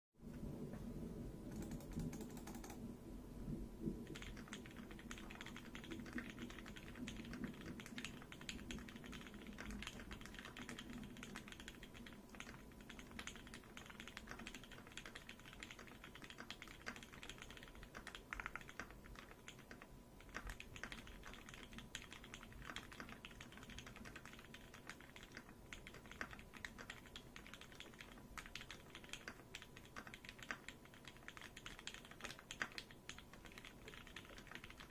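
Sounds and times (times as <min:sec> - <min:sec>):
mechanical keyboard typing: 0:01.5 - 0:02.8, 0:04.0 - 0:34.9.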